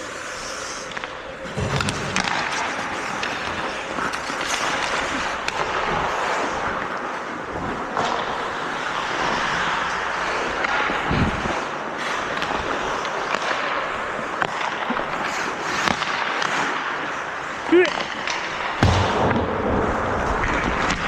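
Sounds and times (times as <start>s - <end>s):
skates scraping hiss: 0.0s - 18.8s
clicks of sticks and puck: 0.0s - 19.5s, 20.2s - 21.0s.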